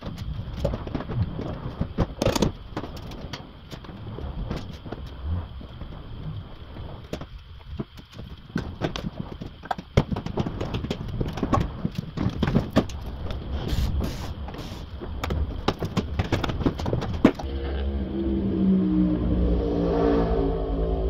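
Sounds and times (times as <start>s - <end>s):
steady pitched hum: 0.0s - 21.0s.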